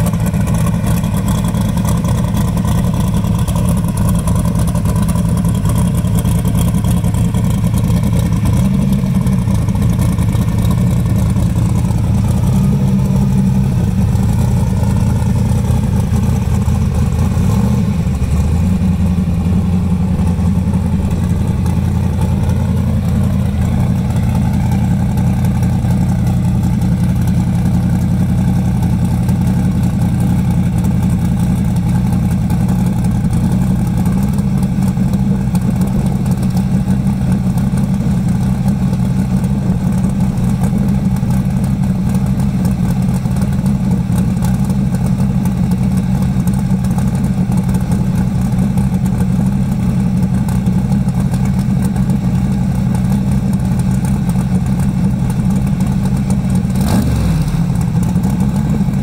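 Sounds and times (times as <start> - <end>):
car engine idling loudly: 0.0 - 59.0.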